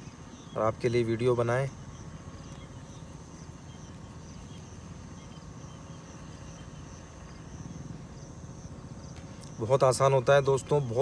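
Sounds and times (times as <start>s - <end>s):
insects trilling: 0.0s - 11.0s
low steady rumble: 0.0s - 11.0s.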